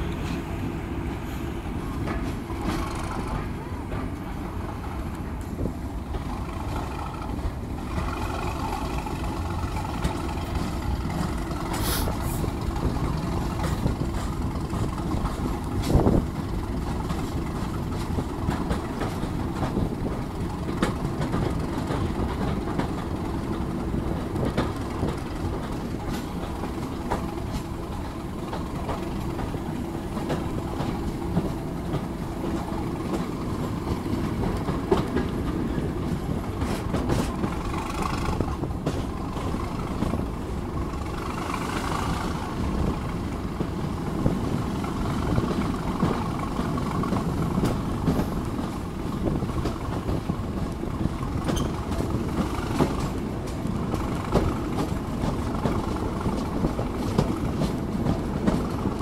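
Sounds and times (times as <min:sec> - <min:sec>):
diesel locomotive engine working hard: 0:00.0 - 0:59.0
train wheels rumbling on track: 0:00.0 - 0:59.0.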